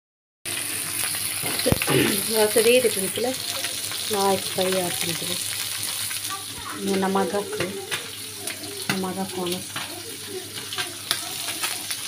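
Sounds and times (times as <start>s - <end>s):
oil sizzling as fish fries: 0.5s - 12.0s.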